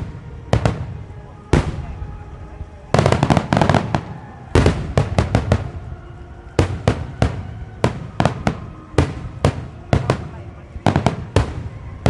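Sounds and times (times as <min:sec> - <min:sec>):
firework shells bursting with echoes: 0:00.0 - 0:12.0.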